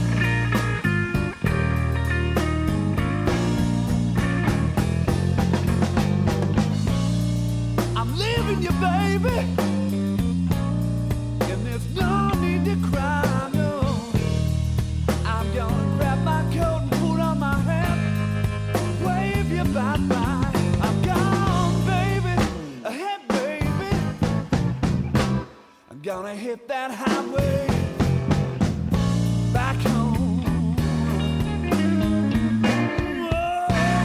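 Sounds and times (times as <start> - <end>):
rock music: 0.0 - 26.0, 26.9 - 34.0.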